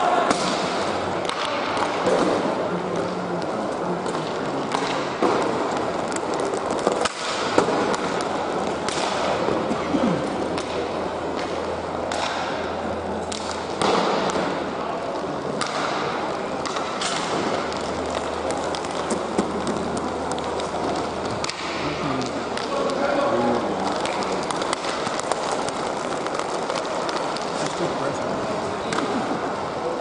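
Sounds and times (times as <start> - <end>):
hockey clacks and thuds: 0.0 - 30.0
skates scraping ice: 0.4 - 12.6, 15.2 - 30.0.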